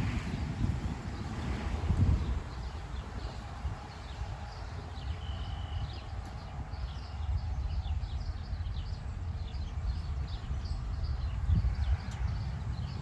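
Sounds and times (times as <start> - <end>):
steady low rumble: 0.0 - 4.9, 5.8 - 13.0.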